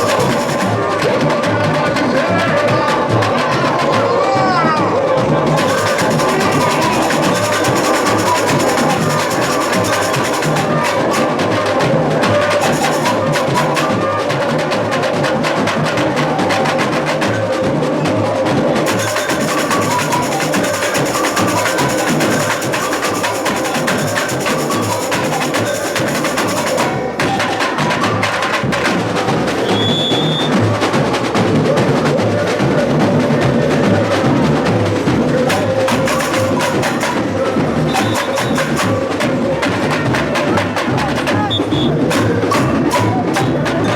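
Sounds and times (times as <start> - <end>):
samba drums and percussion: 0.0 - 43.9.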